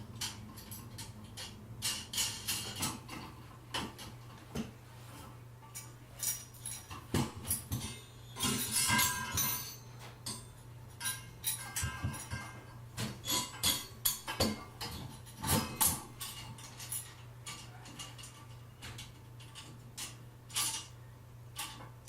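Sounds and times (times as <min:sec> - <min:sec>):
faint steady hum: 0:00.0 - 0:22.0
metal parts clinking and rattling: 0:00.1 - 0:04.4, 0:05.6 - 0:22.0.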